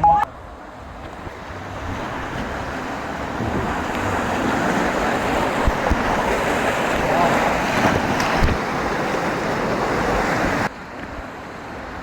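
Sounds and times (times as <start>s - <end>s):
rushing water: 0.0s - 12.0s
wind rumbling on microphone: 0.3s - 12.0s.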